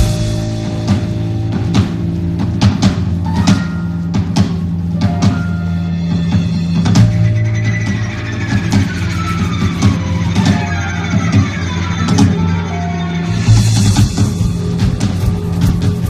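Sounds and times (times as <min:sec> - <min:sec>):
drum and percussion hits: 0:00.0 - 0:12.6, 0:13.4 - 0:16.0
held keyboard or string notes: 0:00.0 - 0:16.0.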